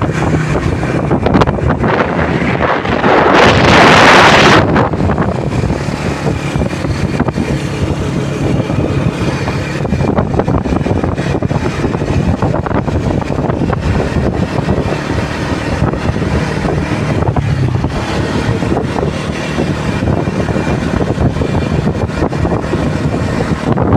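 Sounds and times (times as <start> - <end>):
steady low rumble: 0.0 - 23.9
wind buffeting microphone: 0.0 - 23.9.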